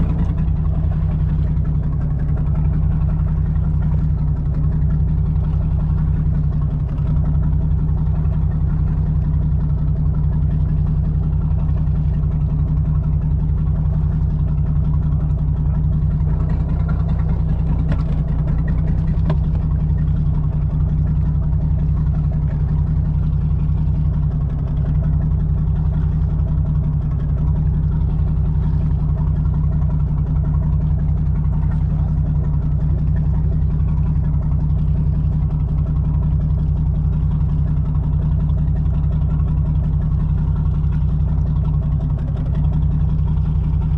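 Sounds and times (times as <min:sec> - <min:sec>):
boat engine humming: 0:00.0 - 0:43.9.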